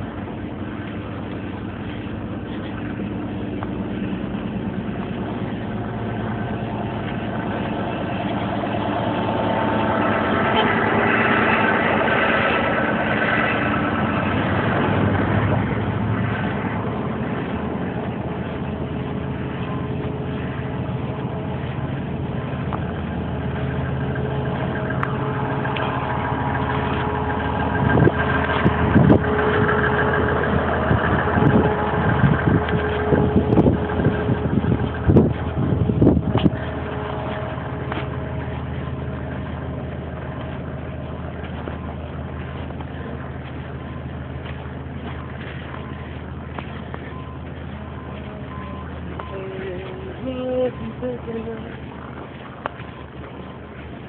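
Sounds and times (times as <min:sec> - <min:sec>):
vehicle engines in traffic: 0:00.0 - 0:54.0.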